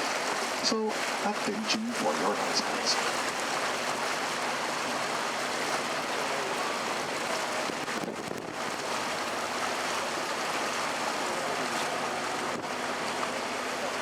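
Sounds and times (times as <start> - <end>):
boat engine running: 0.0 - 14.0
water rushing along boat hull: 0.0 - 14.0.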